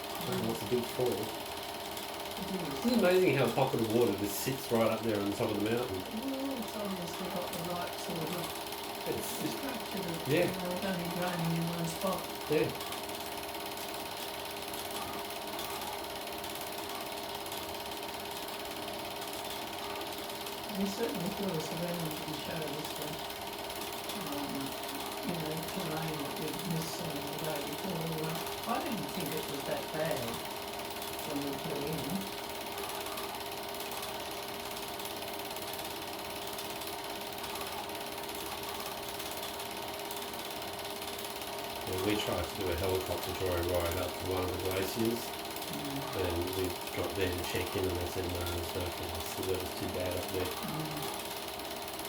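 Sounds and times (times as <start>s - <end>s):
film projector clattering: 0.0s - 52.0s
motor hum: 0.0s - 52.0s
projector steady tone: 0.0s - 52.0s.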